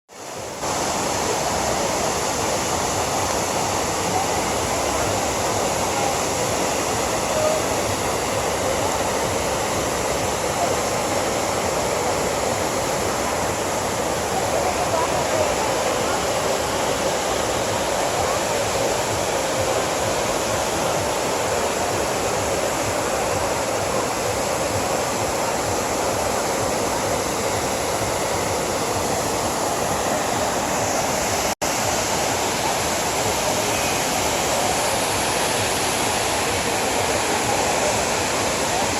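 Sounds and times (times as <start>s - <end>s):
waterfall rushing: 0.1s - 38.9s.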